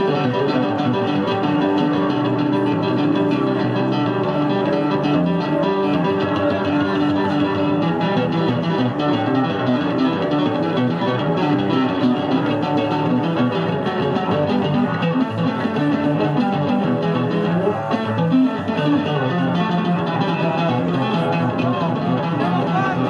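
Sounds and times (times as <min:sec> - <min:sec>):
electric bass guitar: 0:00.0 - 0:23.0.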